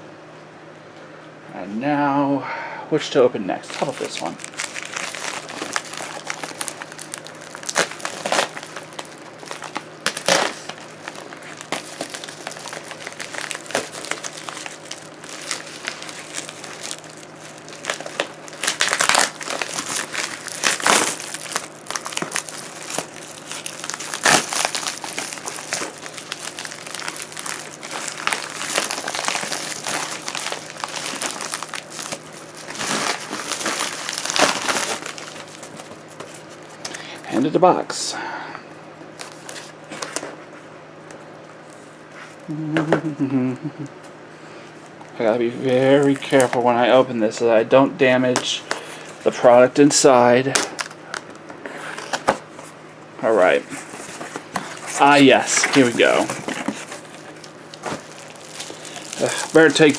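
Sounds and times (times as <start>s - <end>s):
packaging crinkling and tearing: 3.6s - 37.6s, 39.1s - 40.5s, 45.5s - 47.1s, 48.1s - 59.9s.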